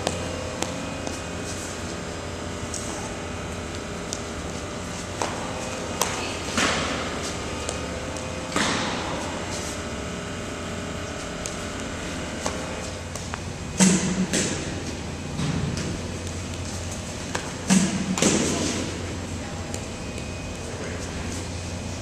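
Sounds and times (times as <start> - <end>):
baseballs cracking in echoing hall: 0.0 - 22.0
steady low hum: 0.0 - 22.0.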